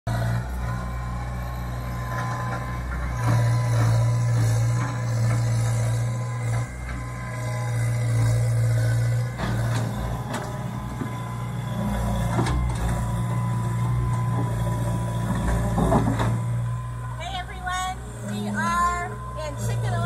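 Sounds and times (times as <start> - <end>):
excavator diesel engine running: 0.1 - 20.0.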